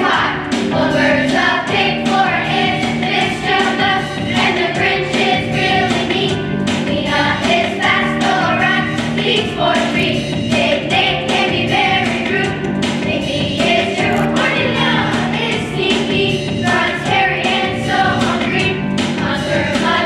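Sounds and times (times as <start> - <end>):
children's choir singing: 0.0 - 20.0.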